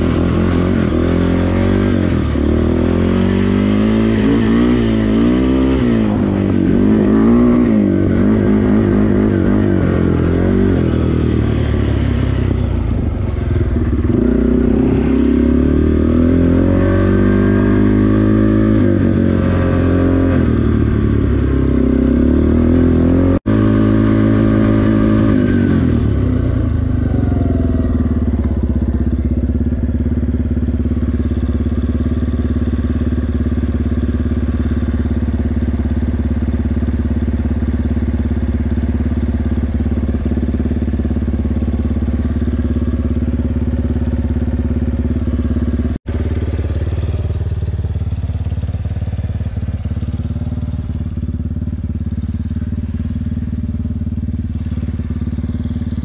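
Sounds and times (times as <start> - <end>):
quad engine idling: 0.0 - 56.0
quad engine winding down: 0.0 - 56.0.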